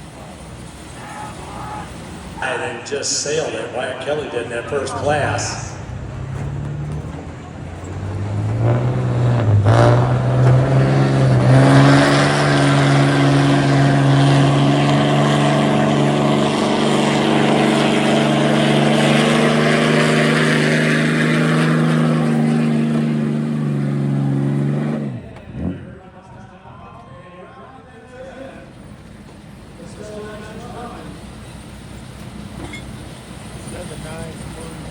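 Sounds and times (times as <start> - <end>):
diesel truck engine revving: 0.0 - 26.8, 27.6 - 34.9.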